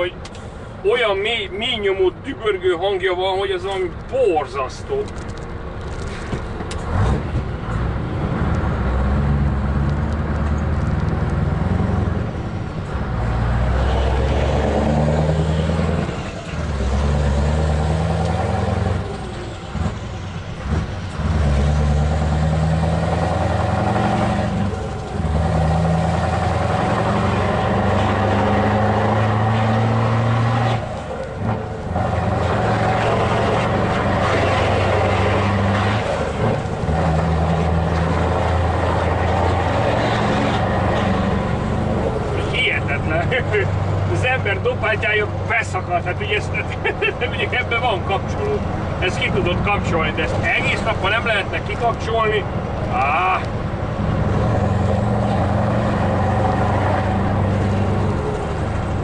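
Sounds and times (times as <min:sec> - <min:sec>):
diesel truck engine rumbling: 0:00.0 - 0:59.0.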